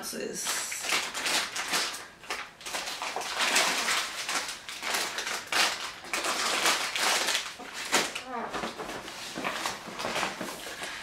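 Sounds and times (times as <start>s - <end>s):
packaging crinkling and rustling: 0.4s - 11.0s.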